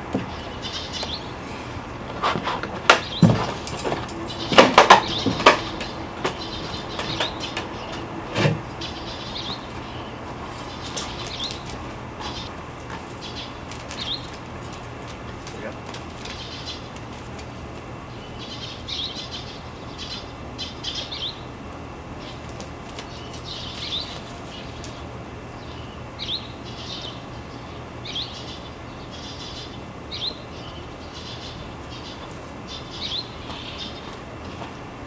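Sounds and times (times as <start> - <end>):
small birds chirping: 0.0 - 34.6
steady low hum: 0.0 - 35.0.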